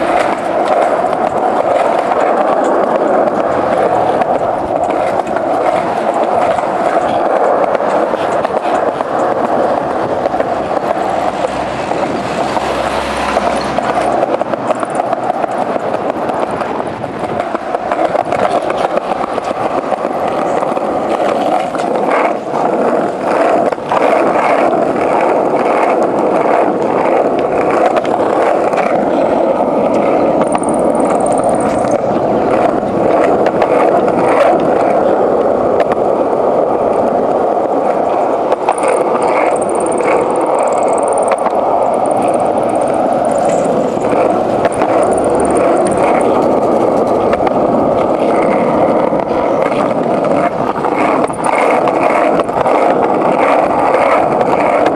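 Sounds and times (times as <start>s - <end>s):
skateboard clicks and knocks: 0.0s - 54.9s
skateboard wheels rolling on pavement: 0.0s - 54.9s.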